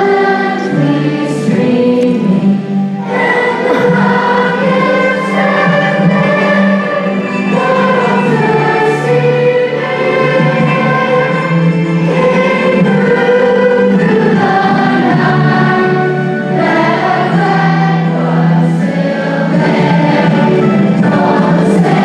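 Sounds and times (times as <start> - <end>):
choir singing long held notes: 0.0 - 22.0.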